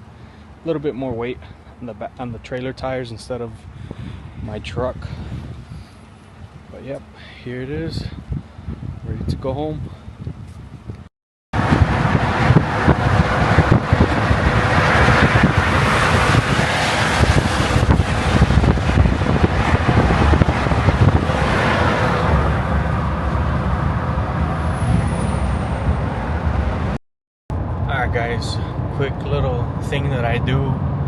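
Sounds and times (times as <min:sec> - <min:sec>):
vehicle road noise: 0:00.0 - 0:31.0.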